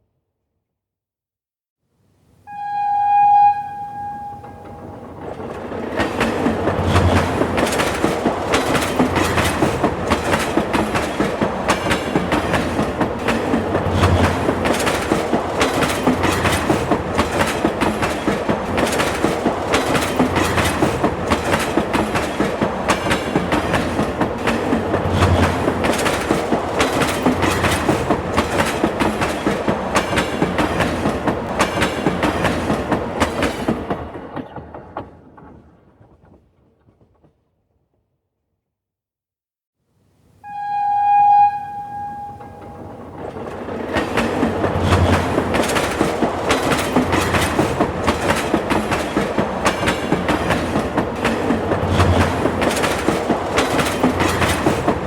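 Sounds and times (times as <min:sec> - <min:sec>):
train wheels clacking on rails: 0:04.3 - 0:37.3, 0:42.0 - 0:55.0.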